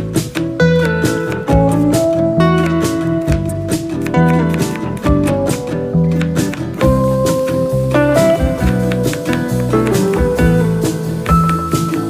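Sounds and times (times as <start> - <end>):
bass line: 0.0 - 12.0
plucked guitar: 0.0 - 12.0.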